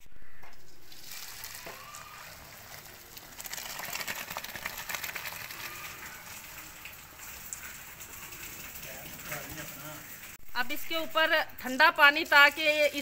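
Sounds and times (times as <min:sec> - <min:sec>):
water pouring into colander: 0:00.6 - 0:10.4, 0:11.8 - 0:13.0.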